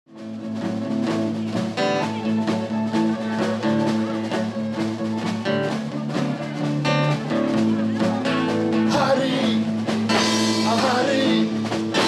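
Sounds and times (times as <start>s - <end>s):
blues band music: 0.1s - 12.0s.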